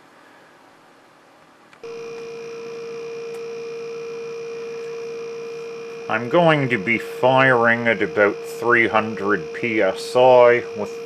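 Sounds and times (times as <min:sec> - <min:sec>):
compressor humming: 0:01.8 - 0:11.0.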